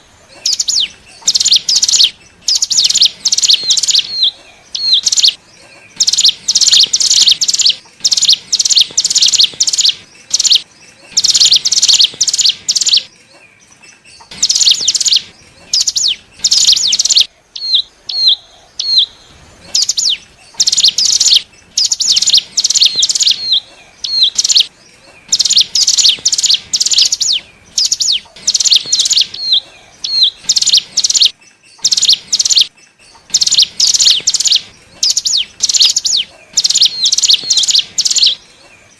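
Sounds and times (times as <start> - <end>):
bird chattering call: 0.3 - 13.1, 13.8 - 38.6.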